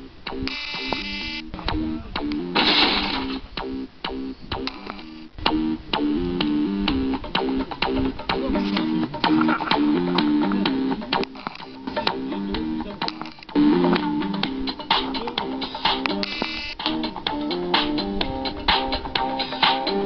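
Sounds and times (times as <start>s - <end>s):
repeating pitched notes music: 0.0s - 20.0s.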